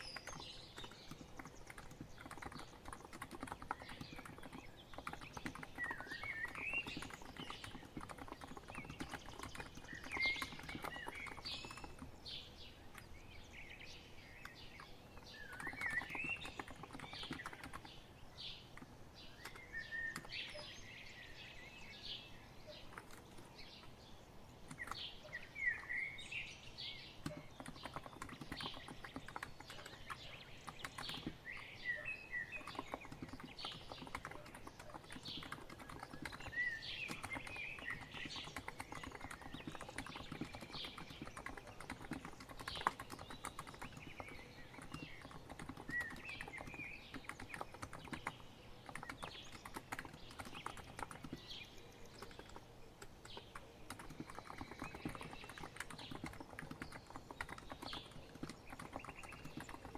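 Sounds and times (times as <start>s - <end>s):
keyboard typing: 0.0s - 12.2s, 14.4s - 20.7s, 22.8s - 24.0s, 24.6s - 25.1s, 27.2s - 31.7s, 32.4s - 59.9s
birds singing: 0.0s - 59.9s.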